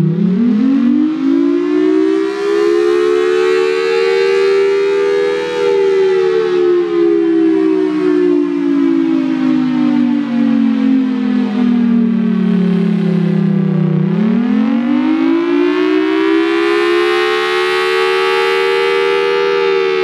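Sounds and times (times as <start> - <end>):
rotating siren wailing: 0.0 - 20.0.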